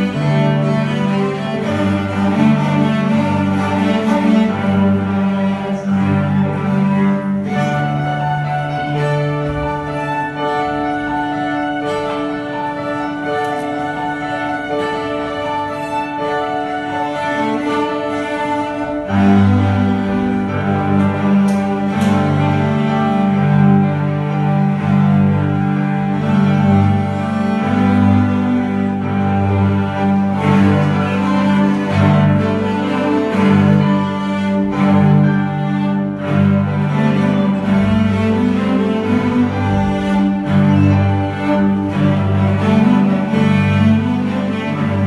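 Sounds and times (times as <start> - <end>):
cello ensemble playing slow melody: 0.0 - 45.0.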